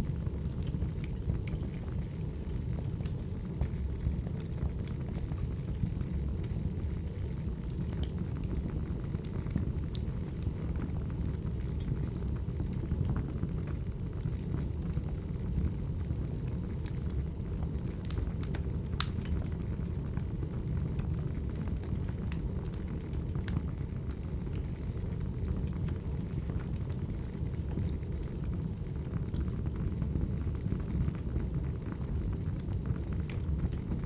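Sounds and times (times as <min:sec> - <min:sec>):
firewood crackling and popping: 0:00.0 - 0:34.0
low rush of flame: 0:00.0 - 0:34.0.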